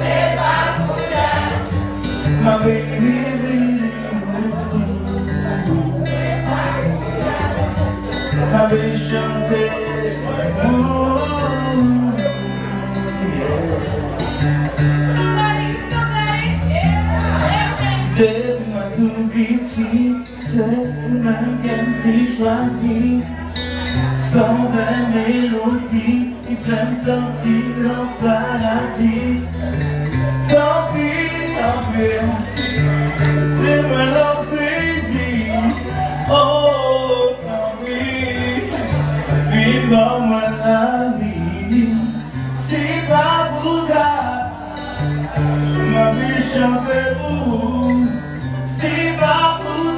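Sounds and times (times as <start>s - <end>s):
acoustic guitar: 0.0s - 49.9s
man singing into a microphone: 0.0s - 49.9s.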